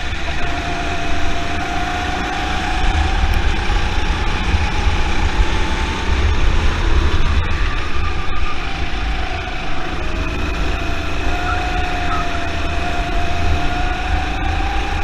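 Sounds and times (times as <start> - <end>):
go-kart engine accelerating: 0.0 - 15.0
wind rumble on microphone: 0.0 - 15.0.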